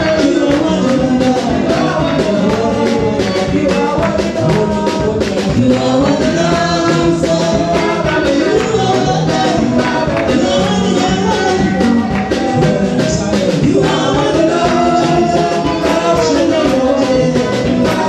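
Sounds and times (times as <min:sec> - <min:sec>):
gospel singing: 0:00.0 - 0:18.0.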